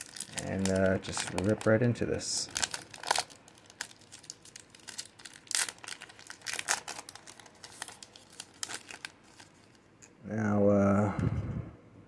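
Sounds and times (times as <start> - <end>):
foil wrapper tearing and crinkling: 0.0 - 9.8.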